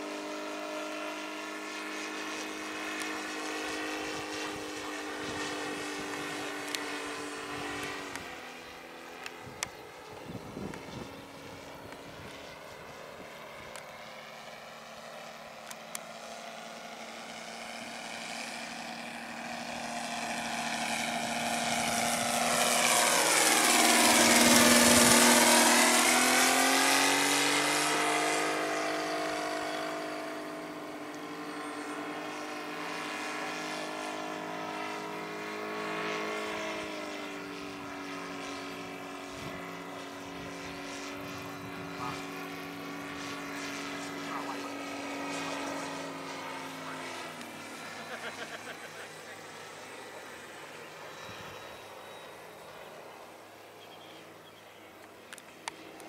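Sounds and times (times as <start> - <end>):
model aircraft engine in flight: 0.0 - 56.0.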